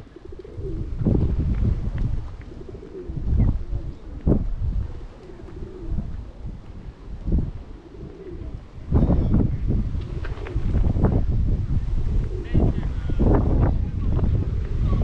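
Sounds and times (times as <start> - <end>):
pigeon cooing: 0.0 - 15.0
wind buffeting microphone: 0.0 - 15.0.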